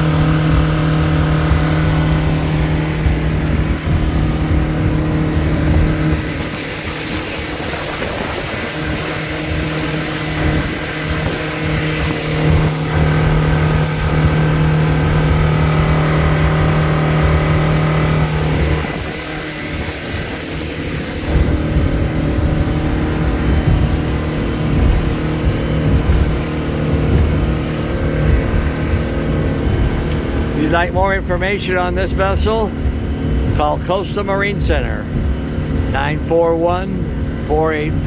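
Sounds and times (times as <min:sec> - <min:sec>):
outboard engine running: 0:00.0 - 0:38.0
water rushing: 0:00.0 - 0:38.0.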